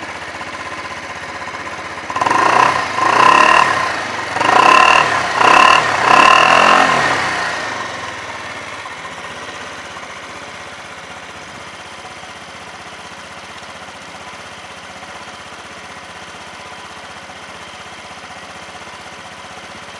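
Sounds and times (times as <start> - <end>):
scooter engine idling: 0.0 - 19.9.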